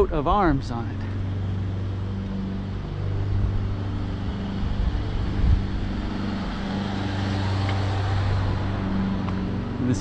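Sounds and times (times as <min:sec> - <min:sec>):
low vehicle rumble: 0:00.0 - 0:10.0
vehicle traffic hum: 0:00.0 - 0:10.0.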